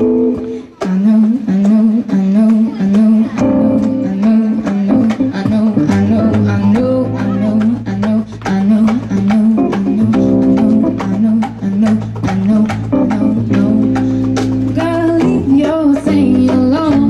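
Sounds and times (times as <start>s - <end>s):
drum kit beat: 0.0s - 17.0s
woman singing: 0.0s - 17.0s
electric bass: 1.5s - 17.0s.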